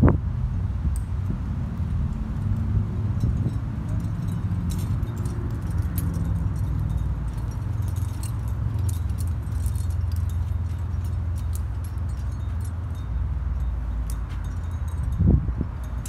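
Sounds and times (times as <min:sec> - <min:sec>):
steady low rumble: 0:00.0 - 0:16.0
climbing gear clinking: 0:00.9 - 0:16.0.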